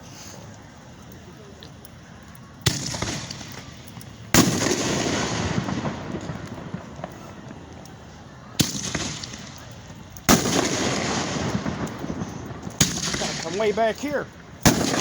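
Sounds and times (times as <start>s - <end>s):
fireworks bangs with crackling: 2.6s - 15.0s.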